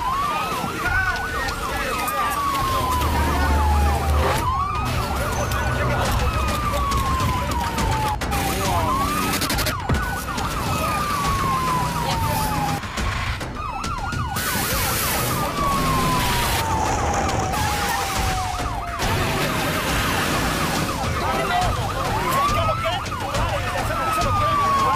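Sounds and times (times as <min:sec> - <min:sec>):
siren wailing: 0:00.0 - 0:24.9
siren yelping: 0:00.0 - 0:24.9.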